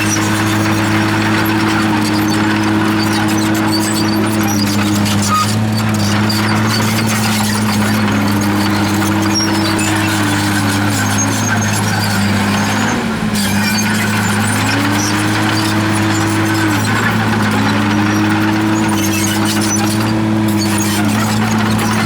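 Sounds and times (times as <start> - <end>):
bulldozer diesel drone and whine: 0.0 - 22.0.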